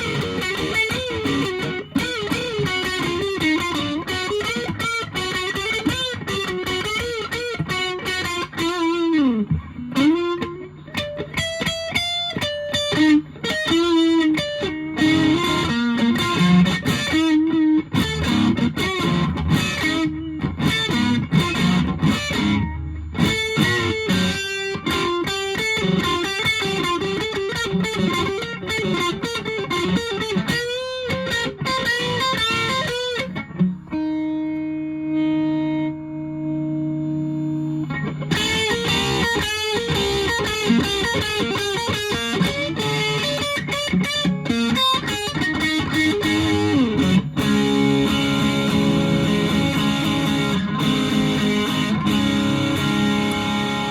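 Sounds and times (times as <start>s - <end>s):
distorted electric guitar lead: 0.0s - 53.9s.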